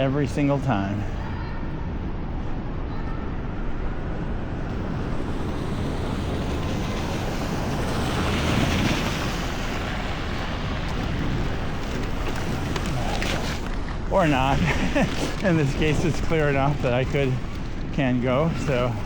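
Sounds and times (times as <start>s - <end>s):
street traffic noise: 0.0s - 19.0s
wind on microphone: 1.1s - 19.0s.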